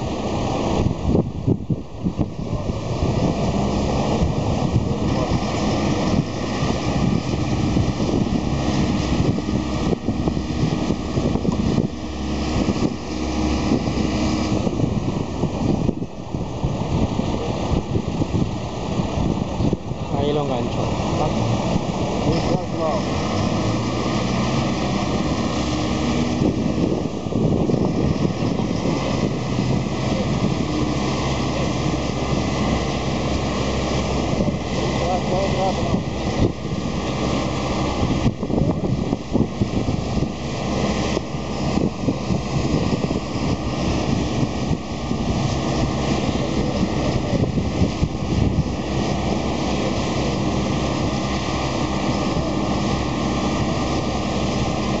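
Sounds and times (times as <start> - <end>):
propeller engines running: 0.0 - 55.0.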